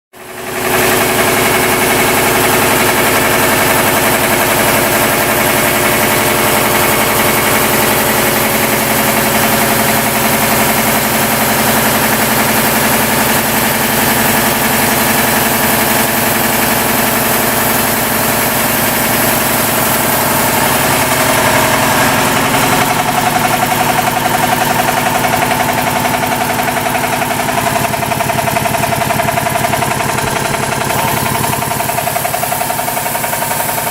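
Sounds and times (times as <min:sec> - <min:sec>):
air compressor running: 0:00.2 - 0:33.9
rhythmic knocking from compressor: 0:00.2 - 0:33.9.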